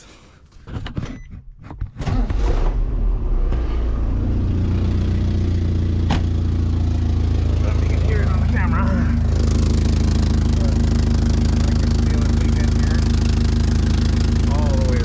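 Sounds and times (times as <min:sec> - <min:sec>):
car engine starting and idling: 0:02.0 - 0:15.0.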